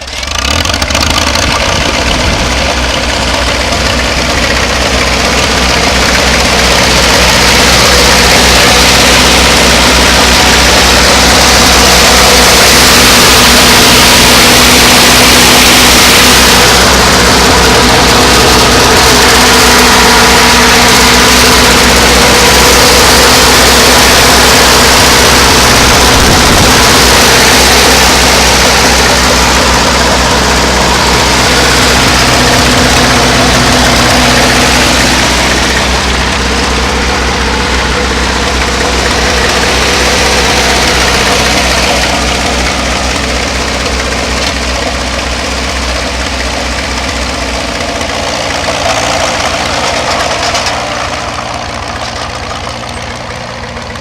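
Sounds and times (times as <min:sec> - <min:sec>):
crawler tractor engine running: 0:00.0 - 0:54.0.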